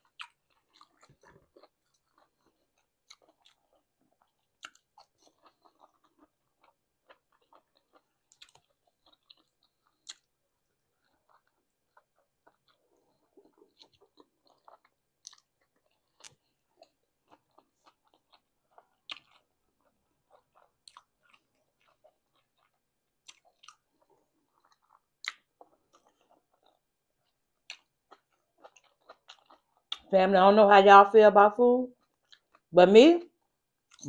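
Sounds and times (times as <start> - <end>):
person chewing with wet smacks: 0.0 - 30.1, 31.9 - 32.7.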